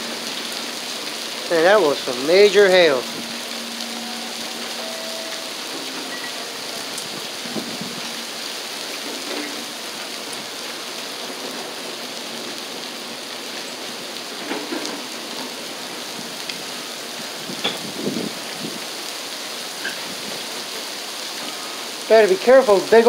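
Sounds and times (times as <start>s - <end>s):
heavy rain on pavement and cars: 0.0s - 23.0s.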